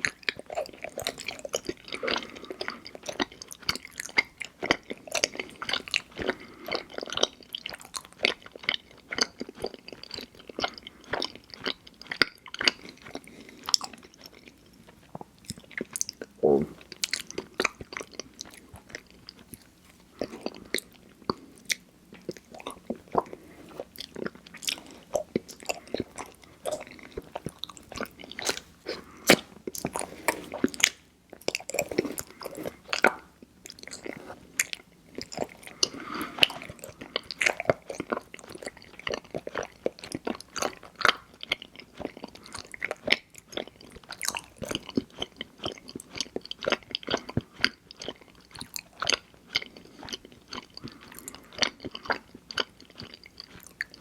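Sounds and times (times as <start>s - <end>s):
chewing with sticky smacks: 0.0s - 54.0s.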